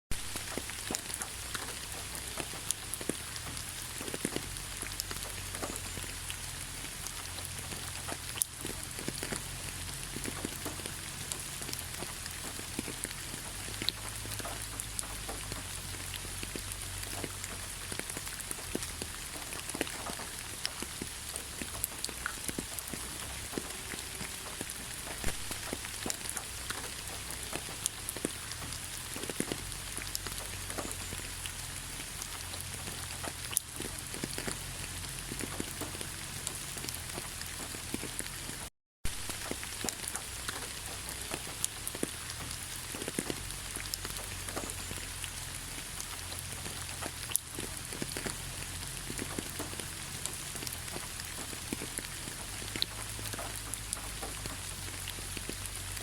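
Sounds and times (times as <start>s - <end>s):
steady rain: 0.1s - 56.0s.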